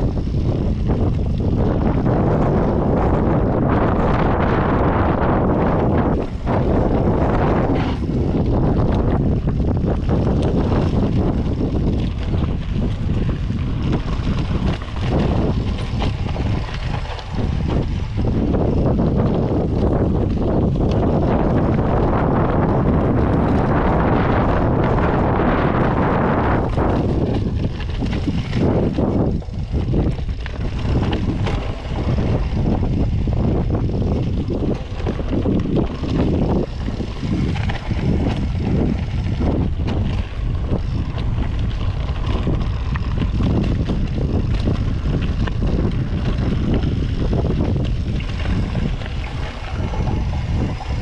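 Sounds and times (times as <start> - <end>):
bike rattles and knocks: 0.0 - 51.0
bike tyres on dirt trail: 0.0 - 51.0
wind buffeting microphone: 0.0 - 51.0.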